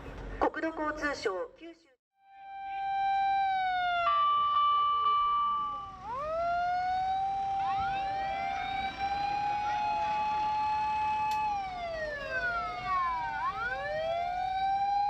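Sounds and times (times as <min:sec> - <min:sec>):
emergency sirens wailing: 0:02.3 - 0:15.0.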